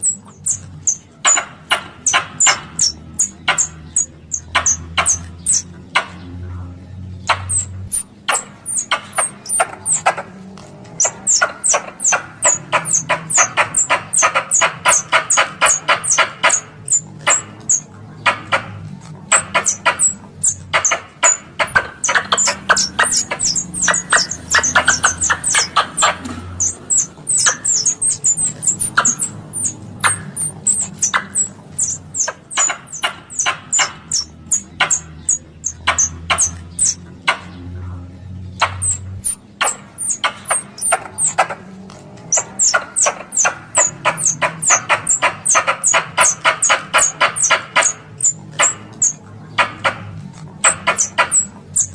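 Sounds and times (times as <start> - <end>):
squirrel call chattering chips: 0.0 - 6.4, 7.2 - 37.7, 38.5 - 51.9.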